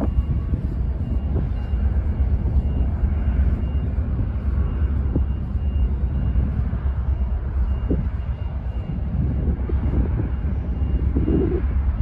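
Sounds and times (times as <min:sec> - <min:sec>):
ferry diesel engines rumbling: 0:00.0 - 0:12.0.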